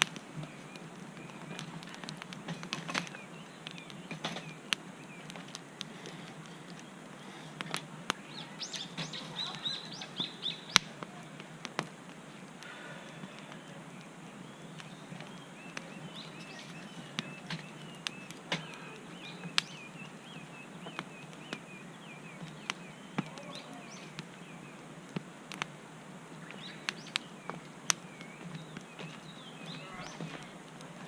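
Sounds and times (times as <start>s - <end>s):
birds chirping: 0.0s - 31.0s
campfire crackling and popping: 0.0s - 31.0s.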